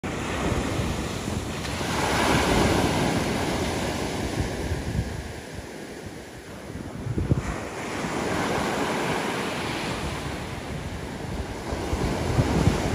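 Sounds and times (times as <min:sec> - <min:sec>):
wind buffeting microphone: 0:00.0 - 0:12.9
small waves breaking on shore: 0:00.1 - 0:12.9.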